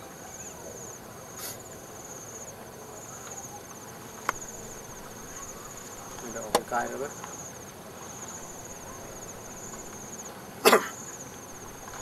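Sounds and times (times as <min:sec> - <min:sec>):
faint outdoor background noise: 0:00.0 - 0:12.0
insects trilling: 0:00.0 - 0:12.0.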